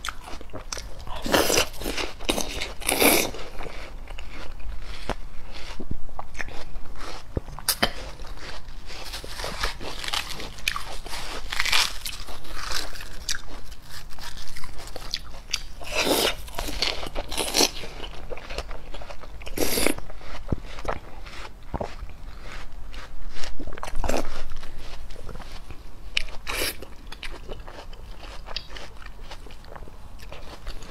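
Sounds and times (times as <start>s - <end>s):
watermelon chewing: 0.0s - 30.9s.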